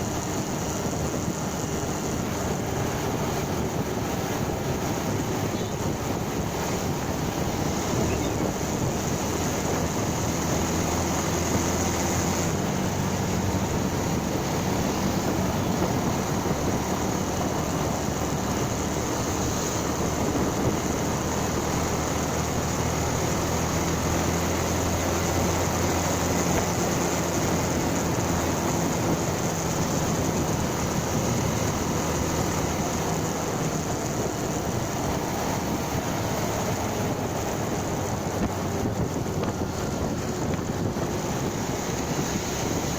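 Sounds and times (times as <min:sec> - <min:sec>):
motorcycle engine running: 0:00.0 - 0:42.9
road and wind noise: 0:00.0 - 0:42.9.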